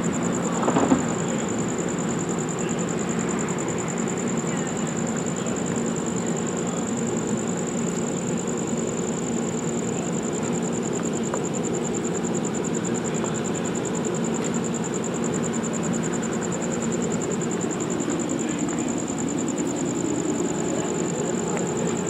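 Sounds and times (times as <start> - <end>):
train idling hum: 0.0 - 22.0.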